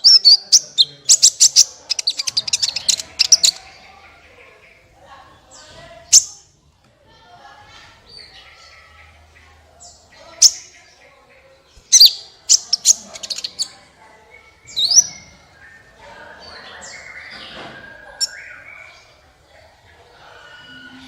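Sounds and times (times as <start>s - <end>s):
small bird chirping: 0.0s - 6.5s, 8.0s - 19.3s.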